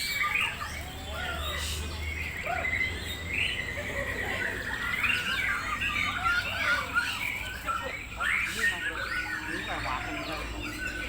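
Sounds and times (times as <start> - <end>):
songbirds chirping and warbling: 0.0 - 11.0.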